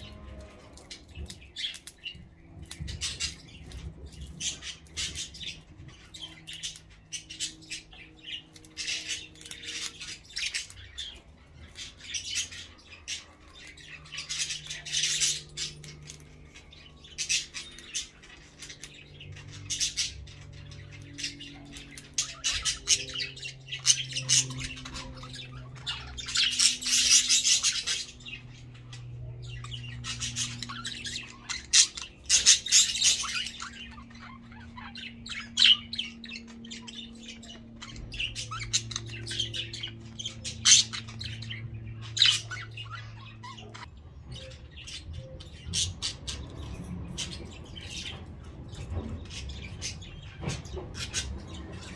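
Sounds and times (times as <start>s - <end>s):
budgerigars chattering and warbling: 0.0s - 51.9s.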